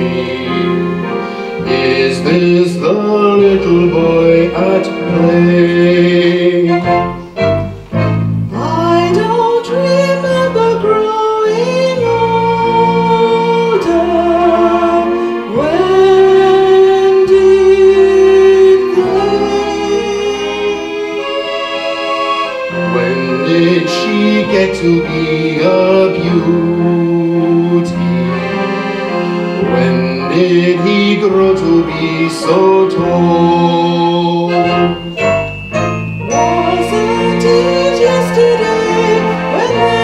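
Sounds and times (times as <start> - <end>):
pit band playing slow music: 0.0 - 40.0.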